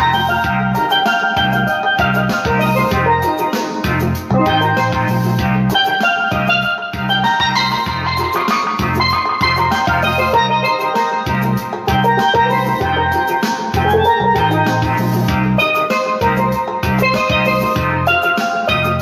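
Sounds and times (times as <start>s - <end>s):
drum beat: 0.0s - 19.0s
low bass line: 0.0s - 19.0s
steelpan melody: 0.0s - 19.0s.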